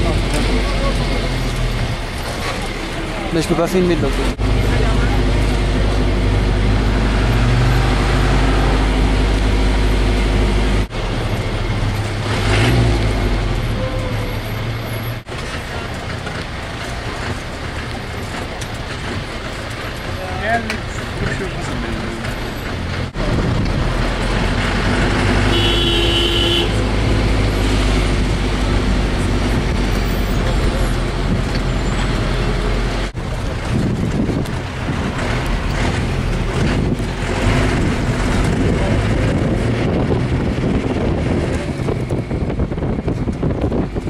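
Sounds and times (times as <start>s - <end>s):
road noise: 0.0s - 44.0s.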